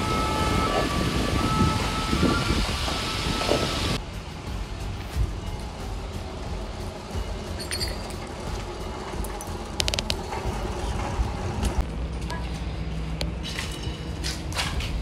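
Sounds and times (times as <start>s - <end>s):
steady low street rumble: 0.0s - 15.0s.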